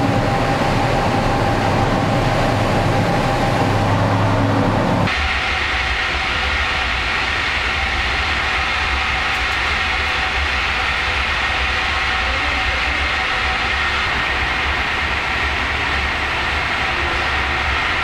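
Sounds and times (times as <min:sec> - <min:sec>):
low machinery rumble: 0:00.0 - 0:18.0.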